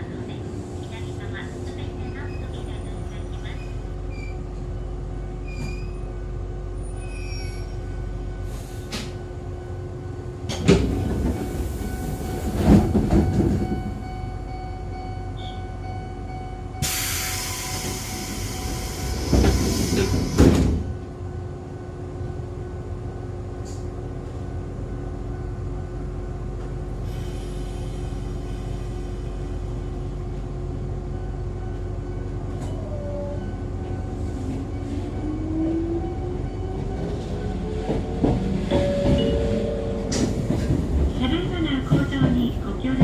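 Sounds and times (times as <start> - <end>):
railcar motor hum: 0.0 - 43.0.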